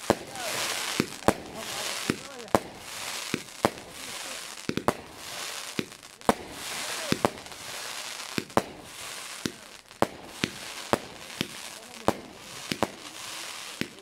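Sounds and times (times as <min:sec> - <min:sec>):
fireworks bangs: 0:00.0 - 0:14.0
fireworks crackling hiss: 0:00.0 - 0:14.0.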